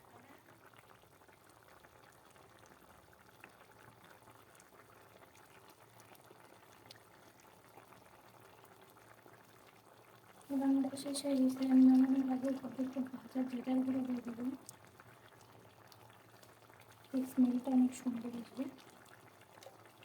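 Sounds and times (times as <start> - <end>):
curry simmering and bubbling: 0.1 - 20.0.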